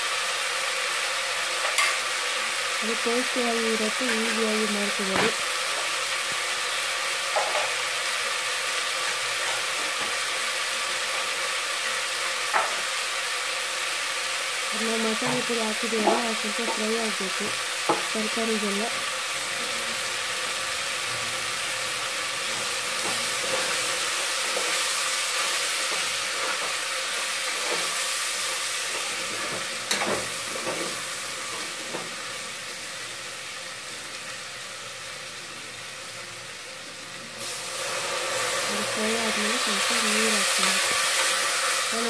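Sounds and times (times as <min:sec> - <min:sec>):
vegetables sizzling: 0:00.0 - 0:42.0.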